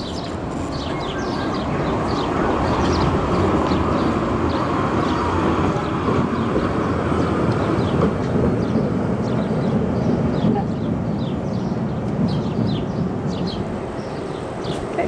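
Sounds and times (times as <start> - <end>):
cable car rumbling on rails: 0.0 - 15.0.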